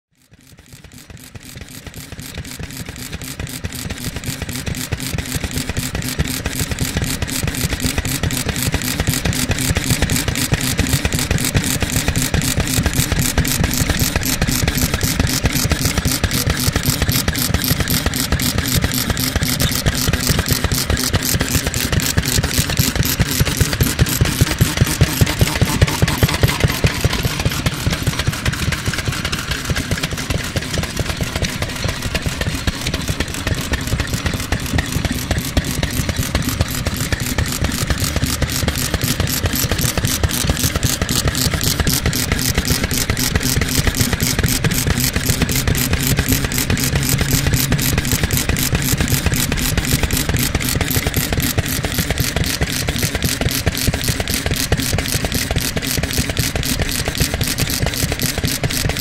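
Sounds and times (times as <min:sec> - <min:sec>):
oil engine running: 0:00.1 - 0:59.0.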